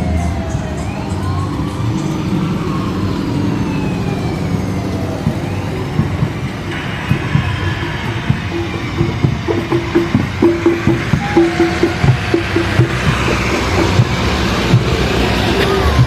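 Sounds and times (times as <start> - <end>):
sirens wailing: 0.0 - 16.0
low rumble: 0.8 - 16.0.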